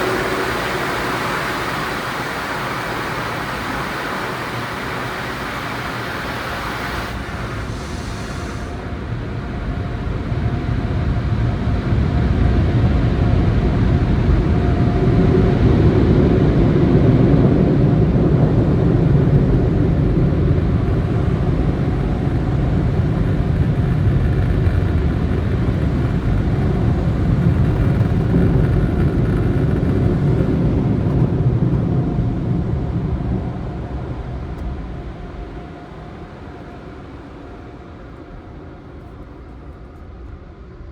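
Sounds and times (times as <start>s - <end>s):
car wash dryer blowers roaring: 0.0s - 39.9s.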